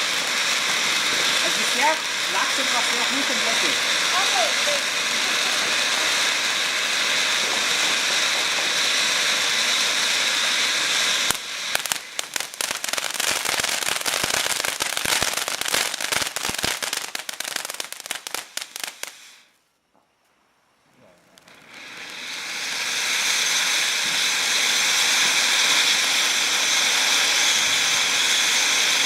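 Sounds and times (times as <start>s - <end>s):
firework crackling: 0.0s - 19.6s, 21.0s - 29.0s
firework fountain hissing: 0.0s - 19.6s, 21.0s - 29.0s.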